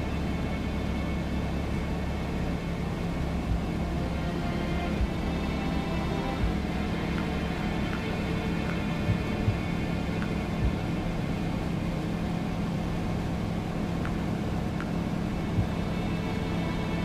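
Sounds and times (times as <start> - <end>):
aircraft engine droning: 0.0 - 17.0
low bumps: 2.0 - 17.0.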